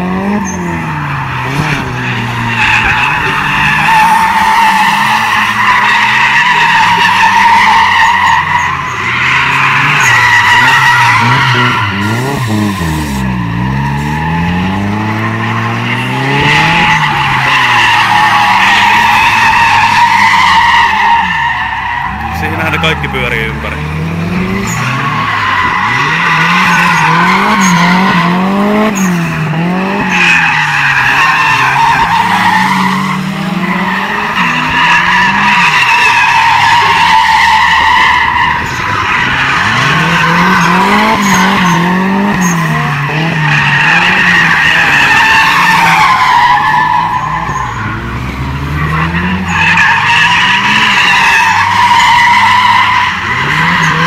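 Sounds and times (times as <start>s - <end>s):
car engine revving: 0.0s - 54.0s
tyres squealing: 0.4s - 54.0s.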